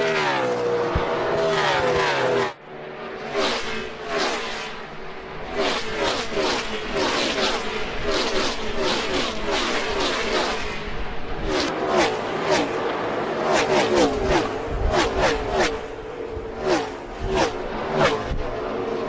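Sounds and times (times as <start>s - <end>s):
race cars passing at speed: 0.0s - 19.0s.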